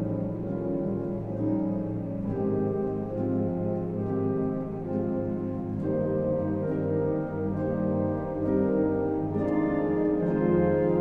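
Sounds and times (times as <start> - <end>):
slow orchestral music with brass: 0.0 - 11.0.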